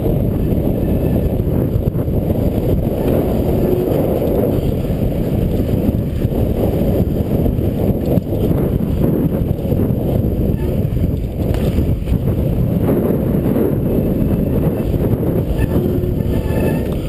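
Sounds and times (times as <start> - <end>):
bike tyres rolling on wooden planks: 0.0 - 17.0
wind buffeting microphone: 0.0 - 17.0.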